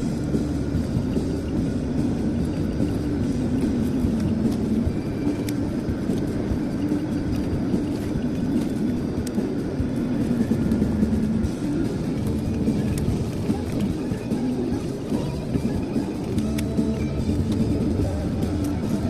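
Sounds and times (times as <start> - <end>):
road and engine drone in car: 0.0 - 19.0.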